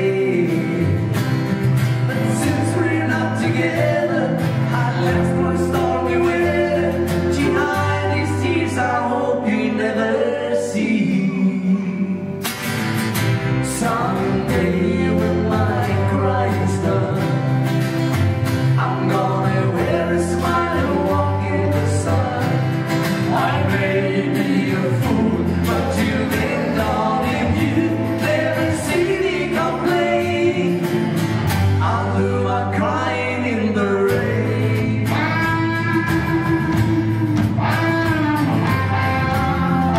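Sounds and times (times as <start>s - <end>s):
drums: 0.0s - 8.8s, 12.4s - 32.2s, 34.1s - 39.9s
men singing: 0.0s - 12.4s, 13.4s - 37.9s
band playing country-pop: 0.0s - 39.9s.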